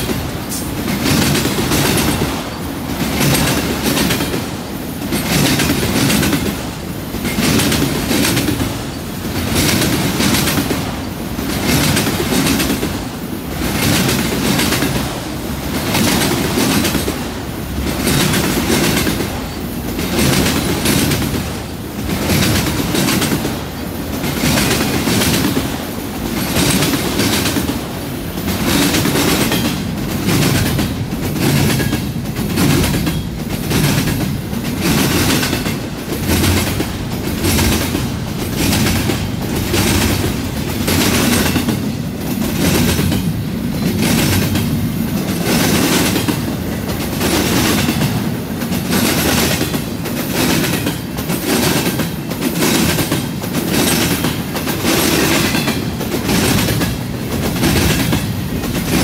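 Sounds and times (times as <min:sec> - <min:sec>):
freight train rumble: 0:00.0 - 0:59.0
train wheels clacking over track: 0:00.0 - 0:59.0.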